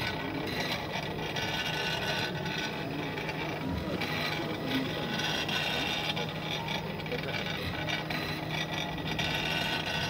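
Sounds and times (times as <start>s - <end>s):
etching machine tapping on stone: 0.0s - 10.0s.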